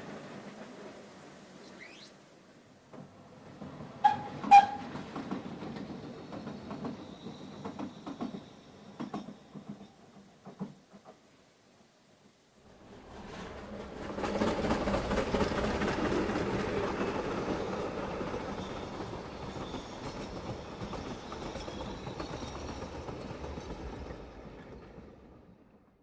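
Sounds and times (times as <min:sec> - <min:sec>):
railway carriages rolling past: 0:00.0 - 0:11.6, 0:12.6 - 0:26.0.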